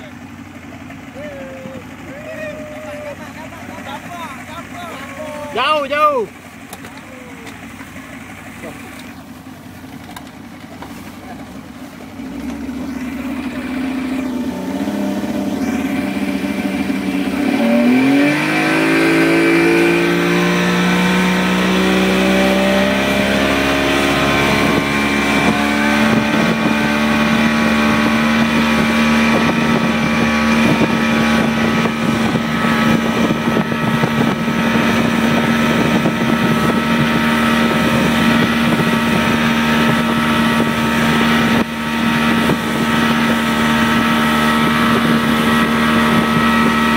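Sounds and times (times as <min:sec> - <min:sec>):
motorboat engine: 0:00.0 - 0:46.9
rushing water noise: 0:01.1 - 0:46.9.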